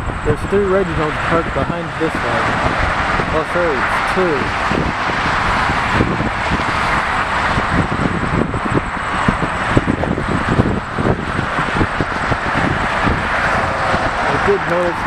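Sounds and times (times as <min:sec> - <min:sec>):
steady background roar: 0:00.0 - 0:15.0
wind buffeting microphone: 0:00.0 - 0:15.0.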